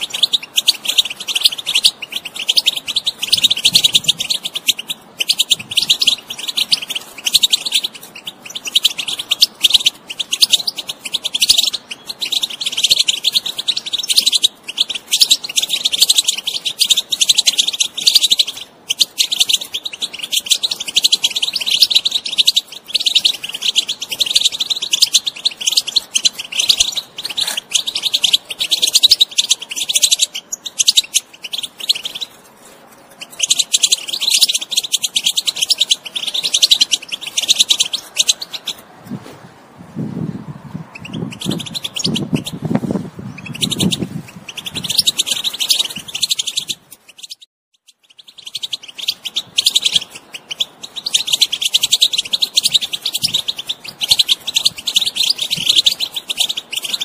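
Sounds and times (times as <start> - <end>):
bird twittering and chirping: 0.0 - 38.9, 40.1 - 57.0.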